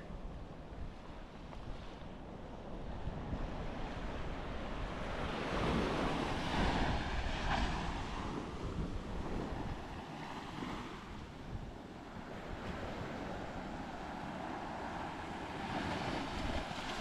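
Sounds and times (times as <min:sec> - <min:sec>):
wind buffeting microphone: 0:00.0 - 0:17.0
waves breaking on beach: 0:00.7 - 0:17.0.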